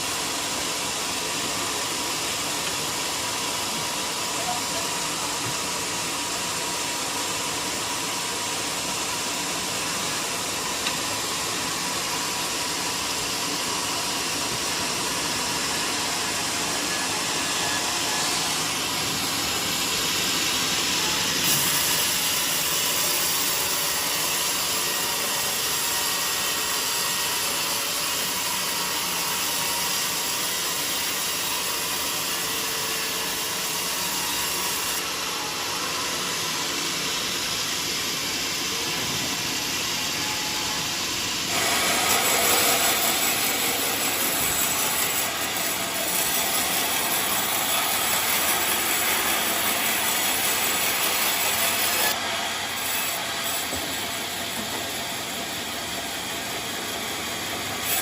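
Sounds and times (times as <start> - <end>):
band sawmill running: 0.0 - 58.0.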